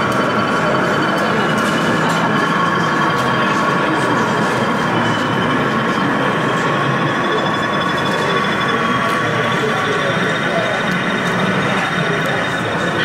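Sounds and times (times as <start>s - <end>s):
model locomotive engine drone: 0.0s - 13.0s.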